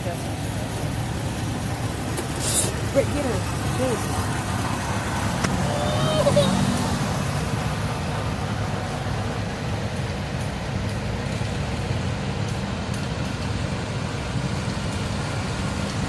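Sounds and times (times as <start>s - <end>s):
vehicle engines rumbling: 0.0s - 16.0s.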